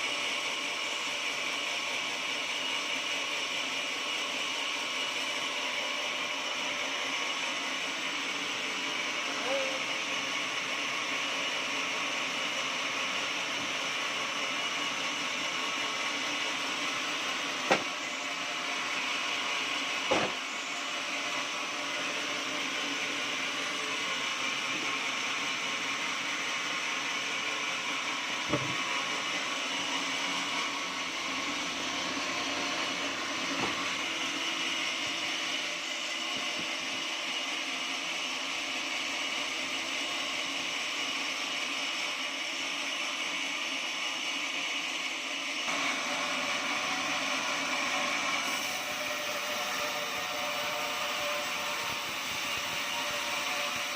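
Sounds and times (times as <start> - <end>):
sawmill whining: 0.0 - 53.9.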